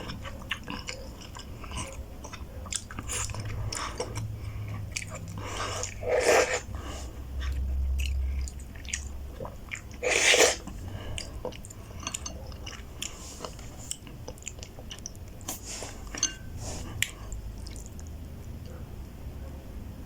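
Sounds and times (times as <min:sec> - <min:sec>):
chewing and mouth smacks: 0:00.0 - 0:06.6, 0:07.4 - 0:16.2, 0:16.9 - 0:18.7.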